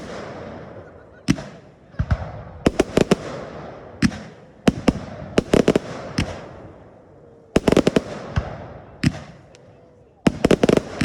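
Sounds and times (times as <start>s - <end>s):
fireworks banging: 0.0s - 11.0s
fireworks crackle: 0.0s - 11.0s.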